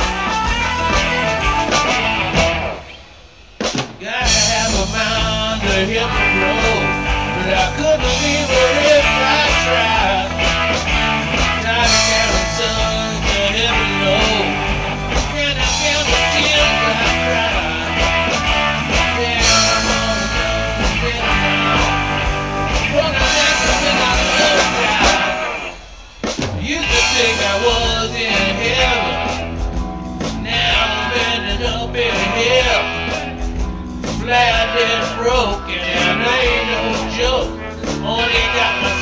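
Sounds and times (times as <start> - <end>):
bass guitar: 0.0 - 3.2, 4.0 - 39.0
drum kit: 0.0 - 39.0
electric guitars: 0.0 - 39.0.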